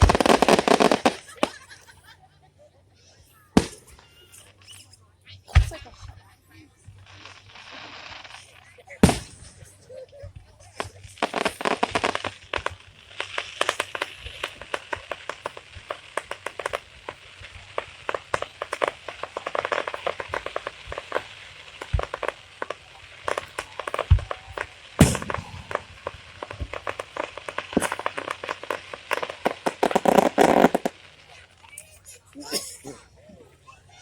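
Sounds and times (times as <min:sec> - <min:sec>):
fireworks booms: 0:00.0 - 0:01.7, 0:03.6 - 0:04.7, 0:06.9 - 0:31.4
fireworks crackling: 0:00.0 - 0:02.3, 0:02.9 - 0:34.0.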